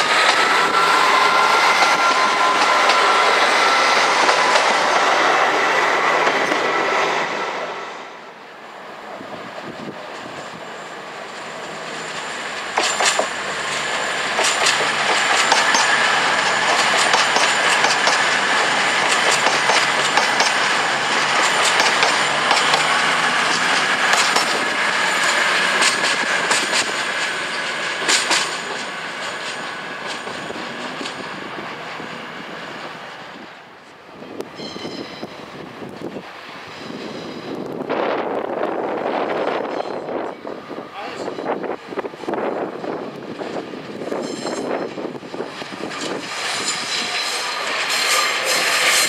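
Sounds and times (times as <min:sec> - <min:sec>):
train running: 0:00.0 - 0:49.0.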